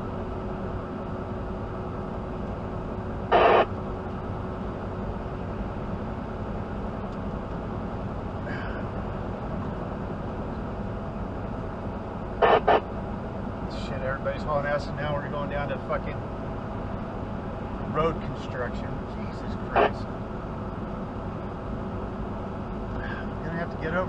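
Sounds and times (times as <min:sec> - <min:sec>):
truck engine and road drone: 0:00.0 - 0:24.0.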